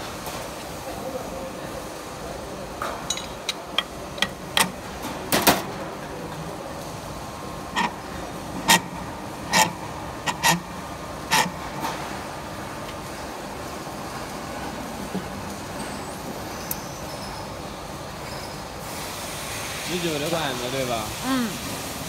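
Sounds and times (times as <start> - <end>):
workshop noise: 0.0 - 22.0.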